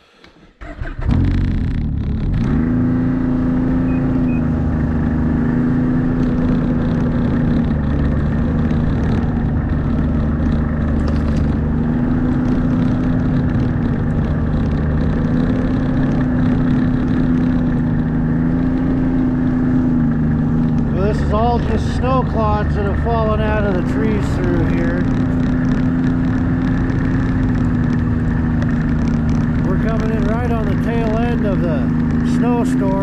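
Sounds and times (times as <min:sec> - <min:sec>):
snowmobile engine pulling away: 0:00.6 - 0:33.0.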